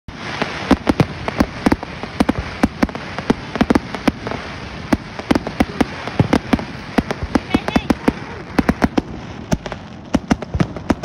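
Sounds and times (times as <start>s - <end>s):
crackling hiss: 0.1s - 11.0s
fireworks popping and crackling: 0.1s - 11.0s.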